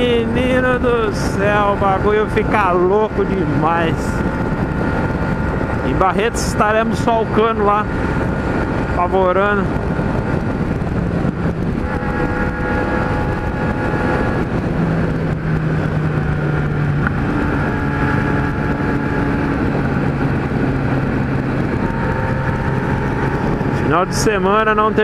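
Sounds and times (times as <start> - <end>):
motorcycle engine cruising: 0.0 - 25.0
wind noise on microphone: 0.0 - 25.0.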